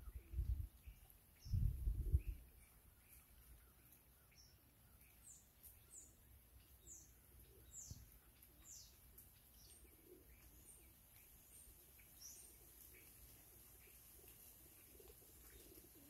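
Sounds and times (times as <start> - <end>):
songbird chirps: 0.0 - 16.0.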